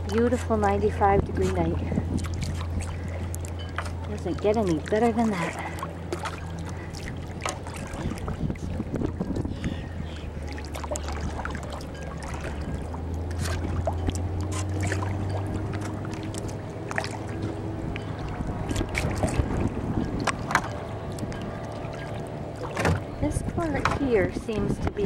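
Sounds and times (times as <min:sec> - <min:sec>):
paddle strokes splashing: 0:00.0 - 0:24.6
steady low rumble: 0:00.0 - 0:25.0
water lapping at hull: 0:00.0 - 0:25.0.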